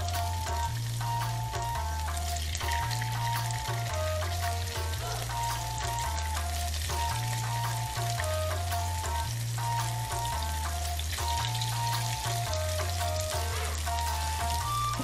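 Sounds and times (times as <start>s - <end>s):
background music with bass line: 0.0s - 15.0s
tofu sizzling in hot oil: 0.0s - 15.0s.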